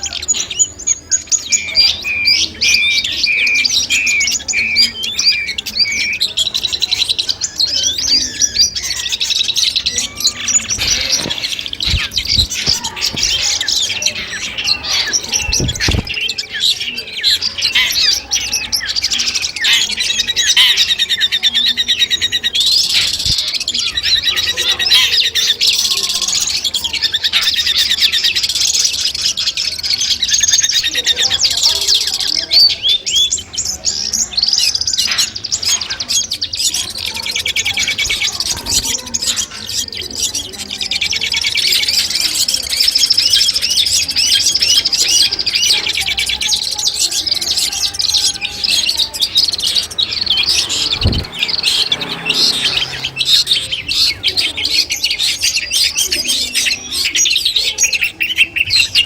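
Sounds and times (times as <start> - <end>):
shrike singing rapid chattering song: 0.0 - 59.0.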